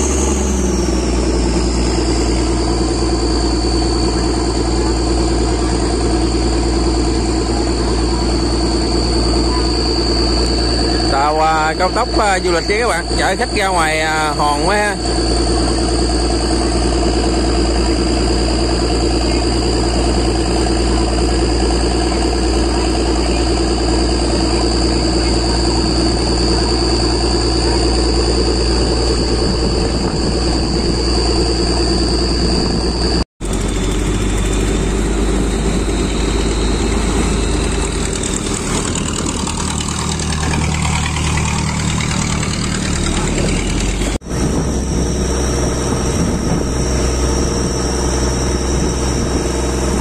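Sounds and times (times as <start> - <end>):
high steady whine: 0.0 - 50.0
motorboat engine running: 0.0 - 50.0.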